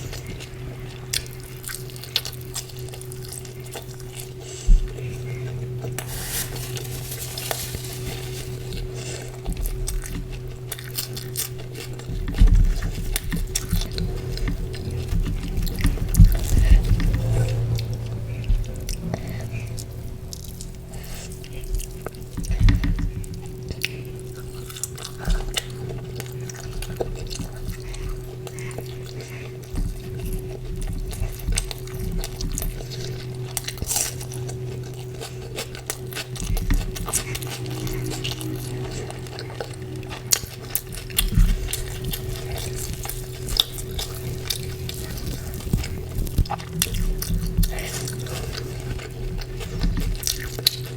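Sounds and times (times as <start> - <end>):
steady low hum: 0.0 - 50.9
wet chewing and mouth smacks: 8.7 - 50.9.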